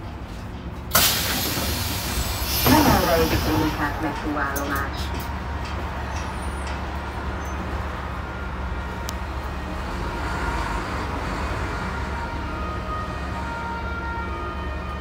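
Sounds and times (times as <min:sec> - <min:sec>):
bus engine humming: 0:00.0 - 0:13.8.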